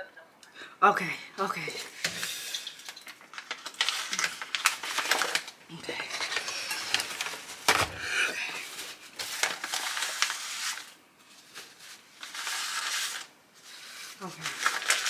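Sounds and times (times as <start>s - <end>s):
paper wrapper crinkling: 1.8s - 15.0s.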